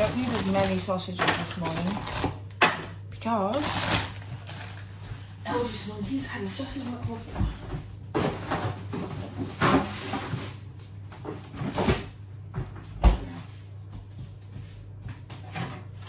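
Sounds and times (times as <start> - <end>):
items rustling in fridge: 0.0 - 16.0
steady low hum: 0.0 - 16.0.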